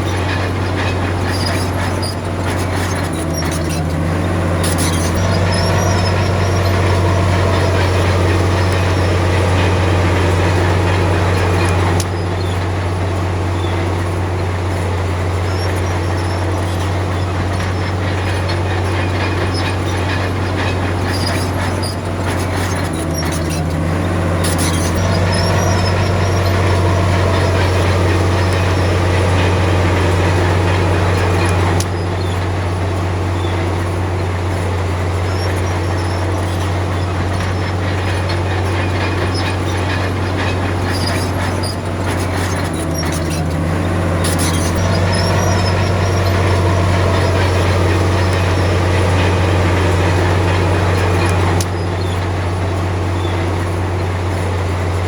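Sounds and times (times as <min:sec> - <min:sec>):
bulldozer diesel engine droning: 0:00.0 - 0:55.0
steel tracks clanking and squeaking: 0:00.0 - 0:55.0.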